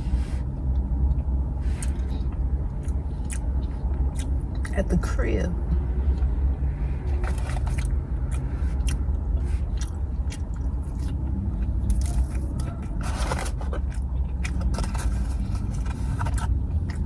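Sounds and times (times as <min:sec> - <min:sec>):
low rumble: 0:00.0 - 0:17.0
person chewing food: 0:00.6 - 0:04.7, 0:06.0 - 0:17.0.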